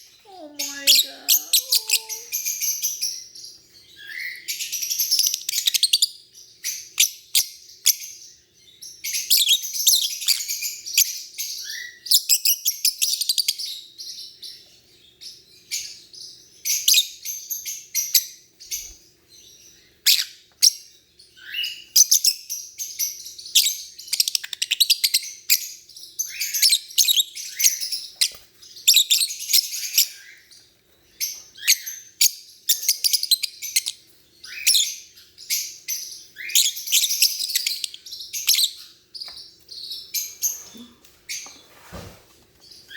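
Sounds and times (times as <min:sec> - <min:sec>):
lovebirds chirping: 0:00.0 - 0:12.5, 0:18.6 - 0:41.6.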